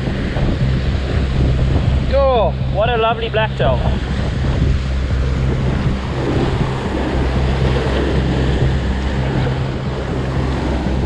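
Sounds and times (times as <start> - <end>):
sea surf breaking on rocks: 0.0 - 11.0
wind rumble on microphone: 0.0 - 11.0.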